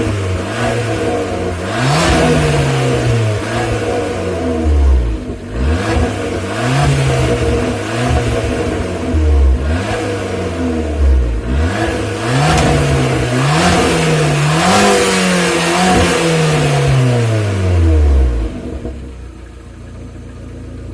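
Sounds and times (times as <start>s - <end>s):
car engine revving: 0.0s - 20.9s.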